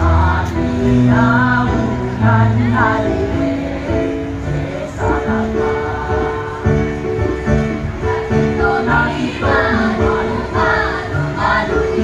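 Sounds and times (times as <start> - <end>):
choir singing in parts: 0.0 - 12.0.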